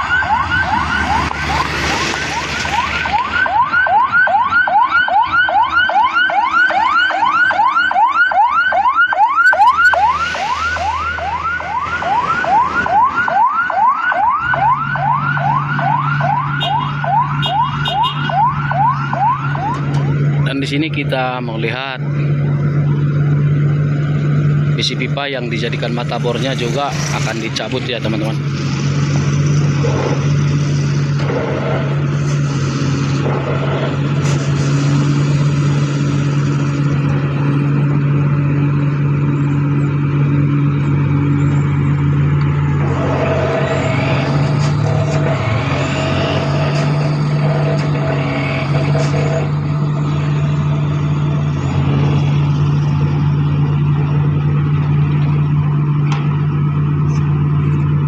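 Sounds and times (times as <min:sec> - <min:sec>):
vibro hammer and diesel engine humming: 0:00.0 - 0:58.0.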